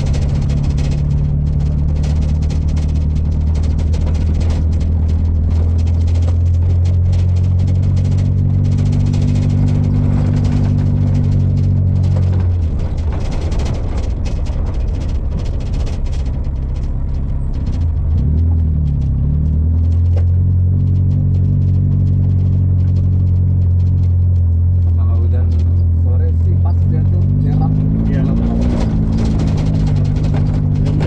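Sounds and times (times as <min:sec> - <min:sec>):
car engine droning: 0:00.0 - 0:31.0
light rattling: 0:00.0 - 0:31.0.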